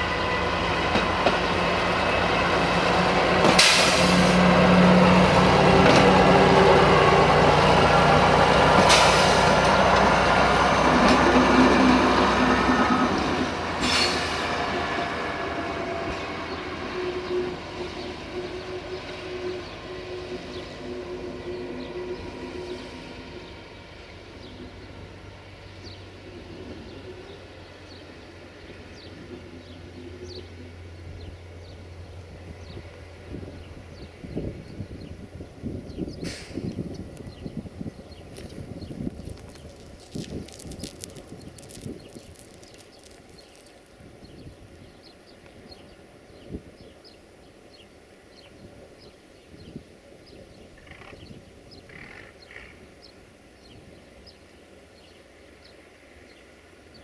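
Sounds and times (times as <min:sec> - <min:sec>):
rail vehicle engine: 0:00.0 - 0:57.0.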